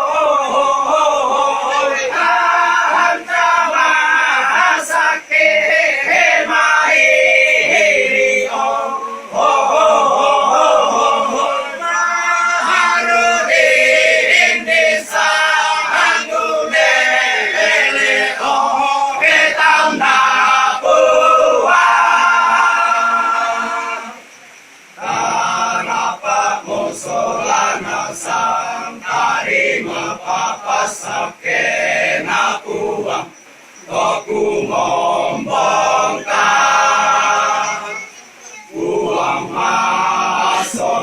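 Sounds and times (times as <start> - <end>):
choir singing chant: 0.0 - 24.3, 24.9 - 41.0.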